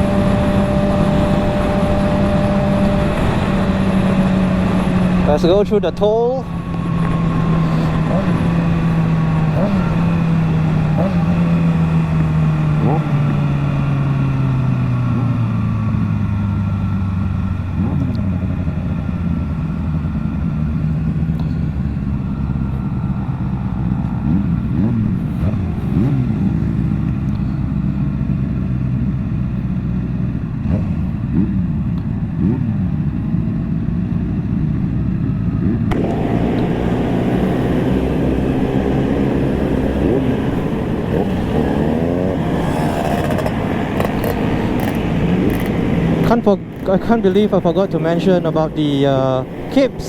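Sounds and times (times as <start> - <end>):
motorcycle engines revving: 0.0 - 50.0.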